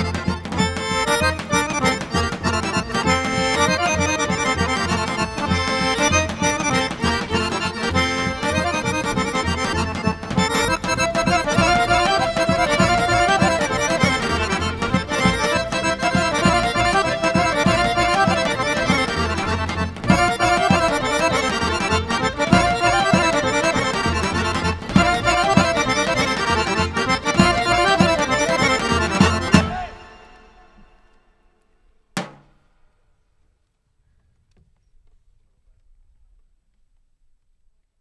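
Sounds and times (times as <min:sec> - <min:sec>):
folk dance music with accordion: 0:00.0 - 0:31.0.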